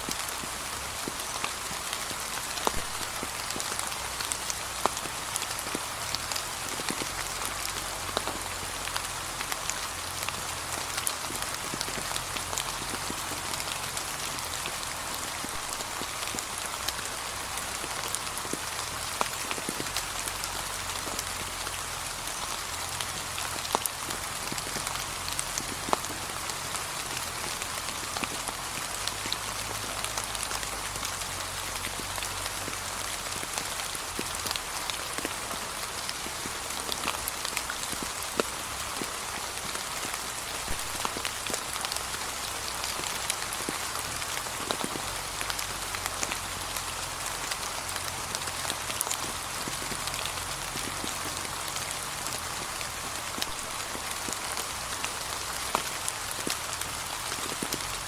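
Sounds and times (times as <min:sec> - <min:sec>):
gentle rain on leaves: 0:00.0 - 0:58.0.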